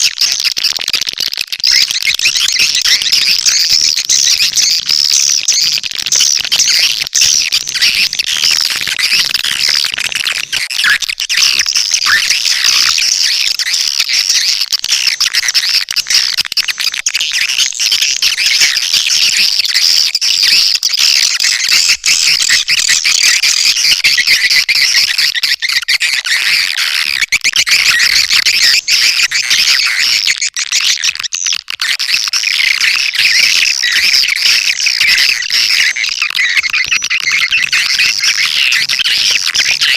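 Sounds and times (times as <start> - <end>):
swiftlets twittering and chirping: 0.0 - 39.9.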